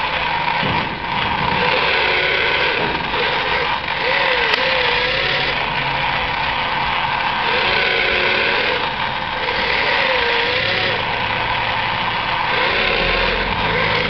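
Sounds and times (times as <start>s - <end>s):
steady mechanical hum: 0.0s - 14.0s
toy motor whine: 0.0s - 14.0s.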